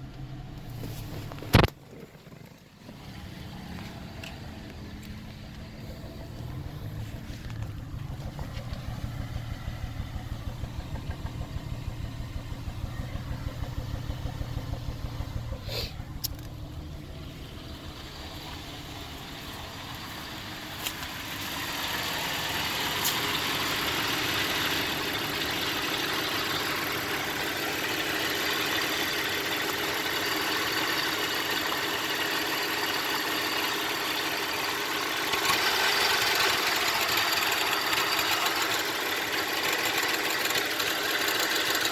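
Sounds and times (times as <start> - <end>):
car engine rough idling: 0.0 - 41.9.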